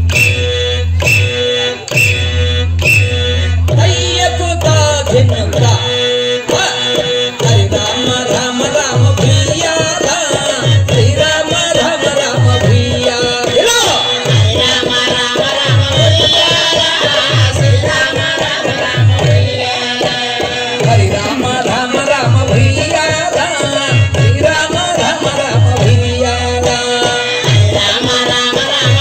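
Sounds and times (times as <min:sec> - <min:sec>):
drum with pitch-bending strokes: 0:00.0 - 0:29.0.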